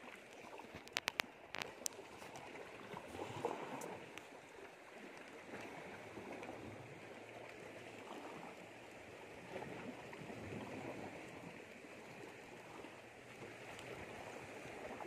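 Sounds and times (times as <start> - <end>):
shallow water lapping: 0.0 - 15.0.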